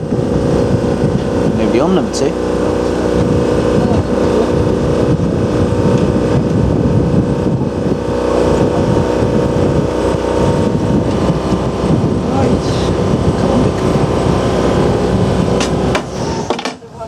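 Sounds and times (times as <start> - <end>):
electric motor hum: 0.0 - 16.7.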